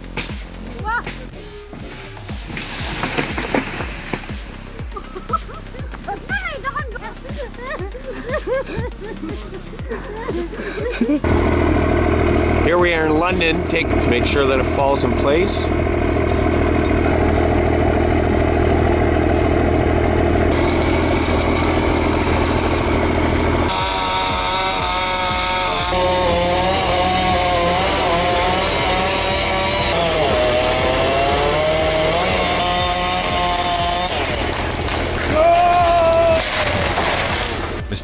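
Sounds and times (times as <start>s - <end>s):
chainsaw cutting wood: 1.1s - 6.1s, 7.2s - 38.0s.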